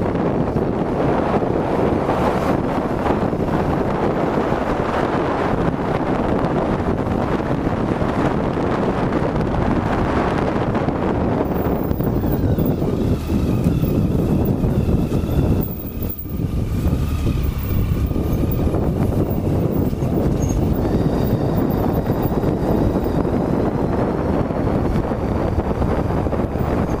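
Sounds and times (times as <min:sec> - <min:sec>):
motorcycle engine running: 0:00.0 - 0:27.0
wind rushing over microphone: 0:00.0 - 0:27.0.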